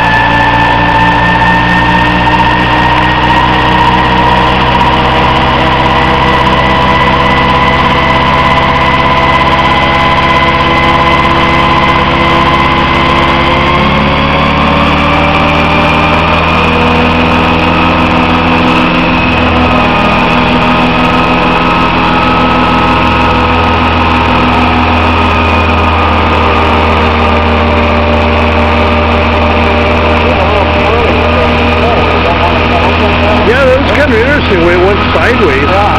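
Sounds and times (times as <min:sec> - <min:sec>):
model helicopter motor whining: 0:00.0 - 0:35.9.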